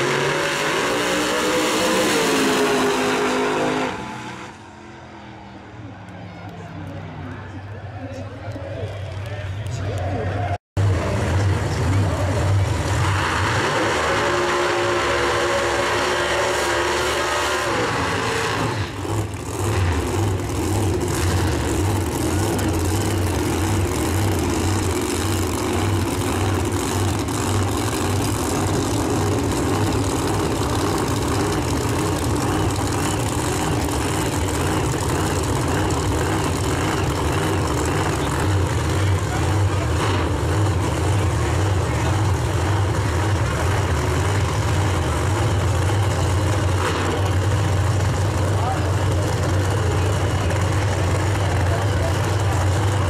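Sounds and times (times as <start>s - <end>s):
race car engines rumbling: 0.0s - 53.0s.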